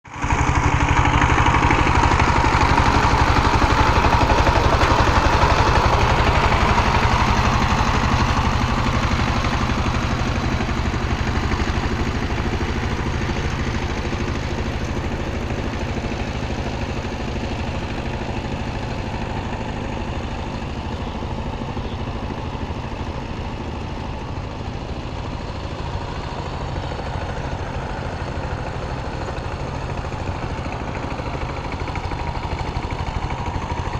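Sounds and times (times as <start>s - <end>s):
power tiller engine running: 0.0s - 33.9s.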